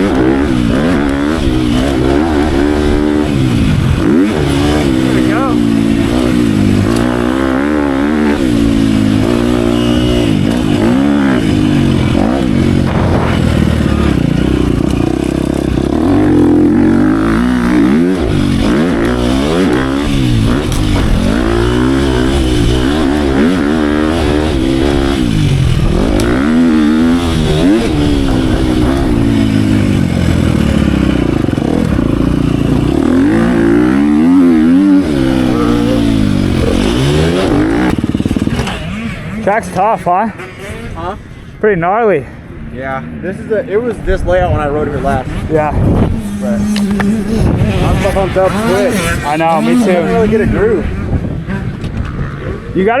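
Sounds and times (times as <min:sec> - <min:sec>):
dirt bike engine revving: 0:00.0 - 0:41.6, 0:44.3 - 0:53.0.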